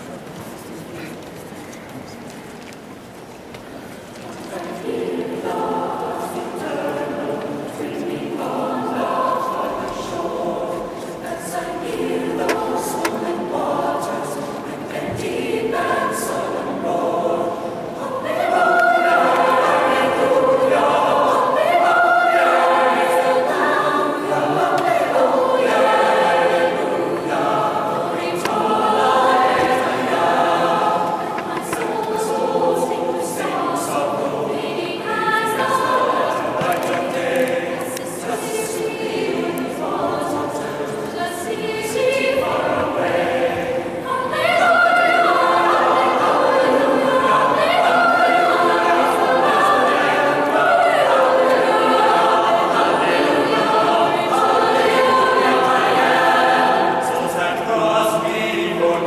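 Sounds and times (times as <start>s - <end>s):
choir singing: 4.4s - 59.0s.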